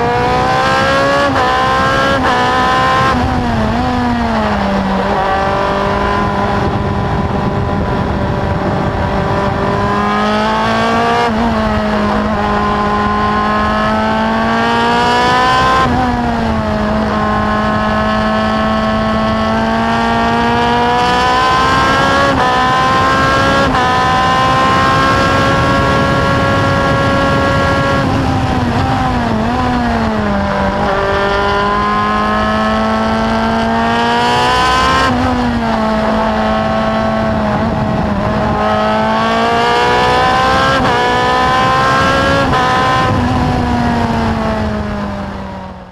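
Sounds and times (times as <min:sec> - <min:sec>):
race car engine at full throttle: 0:00.0 - 0:45.9.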